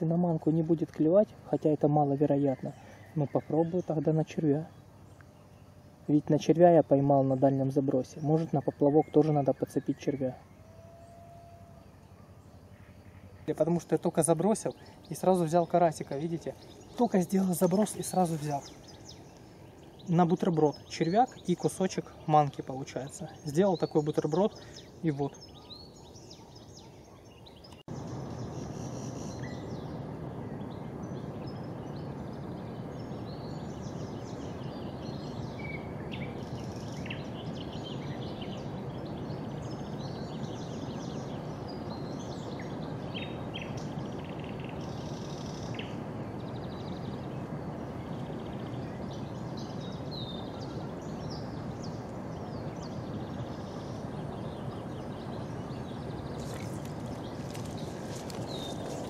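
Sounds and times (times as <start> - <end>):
songbirds chirping: 0.0 - 59.0
steady background hiss: 0.0 - 59.0.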